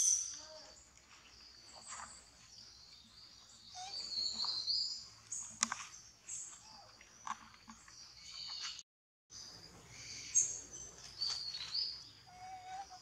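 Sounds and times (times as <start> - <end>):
birds chirping and calling: 0.0 - 8.8, 9.4 - 13.0.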